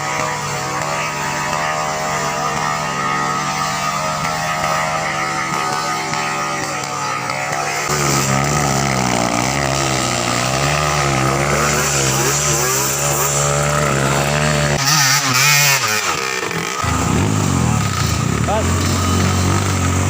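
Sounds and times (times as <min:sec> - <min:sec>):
dirt bike engine revving: 0:00.0 - 0:20.0
loud rush of noise: 0:00.0 - 0:20.0.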